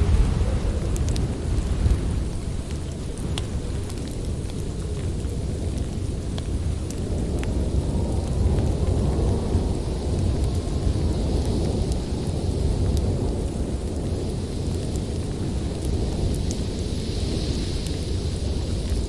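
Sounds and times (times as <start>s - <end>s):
snowstorm wind rumbling: 0.0s - 19.0s
wood fire crackling: 0.0s - 19.0s.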